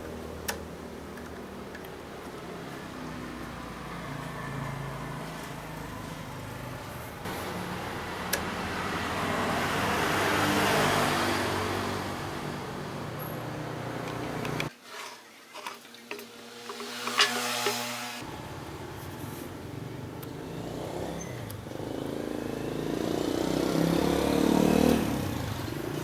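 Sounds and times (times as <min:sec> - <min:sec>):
road traffic noise: 0:00.0 - 0:14.7, 0:15.6 - 0:26.0.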